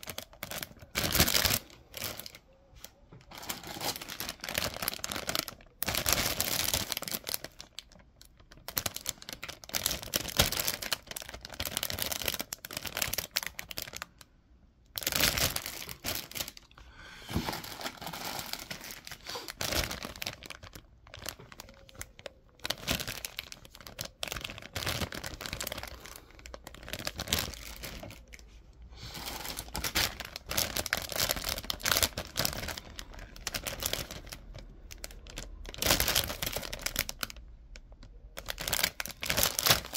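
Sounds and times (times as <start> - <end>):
plastic bags crinkling: 0.0 - 14.3, 14.9 - 39.9.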